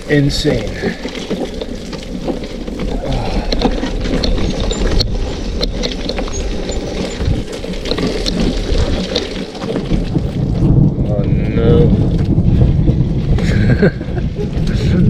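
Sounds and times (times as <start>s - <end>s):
bicycle clattering and rattling: 0.0s - 15.0s
tyre rumble: 0.0s - 15.0s.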